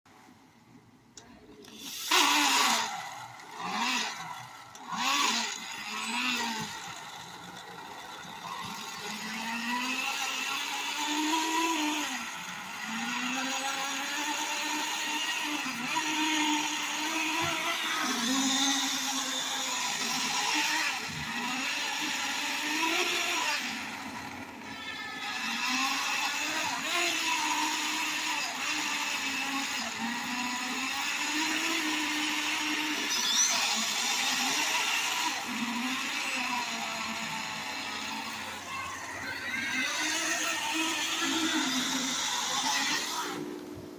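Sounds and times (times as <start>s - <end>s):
engine revving: 1.7s - 43.4s.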